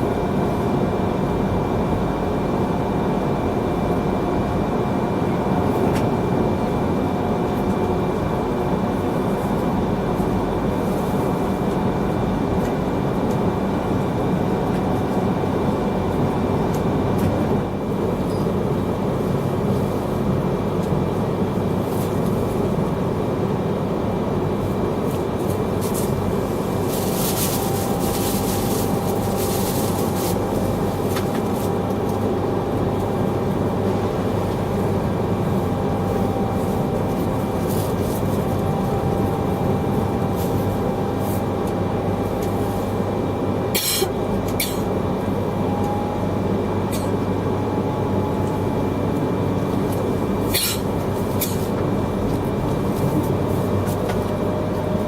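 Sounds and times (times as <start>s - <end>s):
rumble of wheels on rail: 0.0s - 55.0s.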